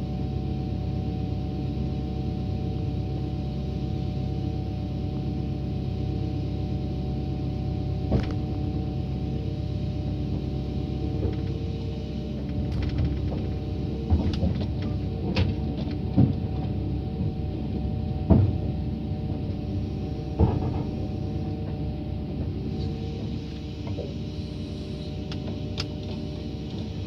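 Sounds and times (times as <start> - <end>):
heavy equipment engine idling: 5.1 - 27.0.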